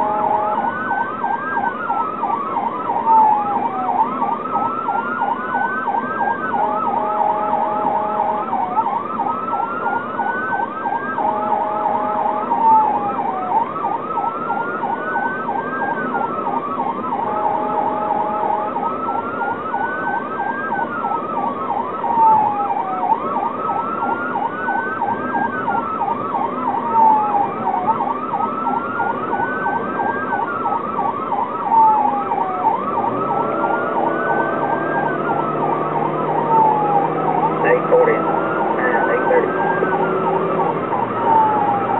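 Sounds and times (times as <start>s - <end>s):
emergency siren yelp and wail: 0.0s - 41.9s
vehicle engine noise: 0.0s - 41.9s.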